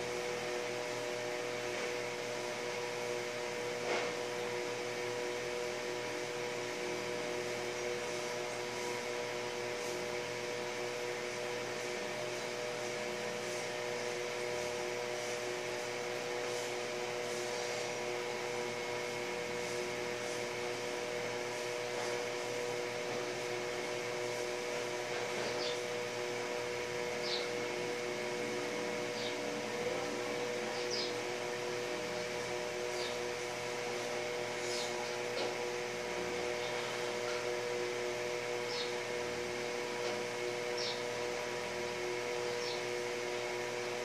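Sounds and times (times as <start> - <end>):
machine hum and hiss: 0.0 - 44.0.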